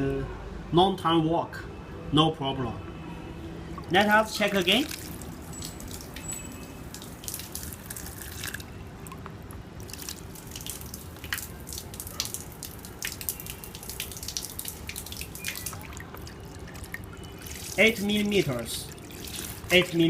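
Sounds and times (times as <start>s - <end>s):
water splashing and dripping: 3.6s - 20.0s.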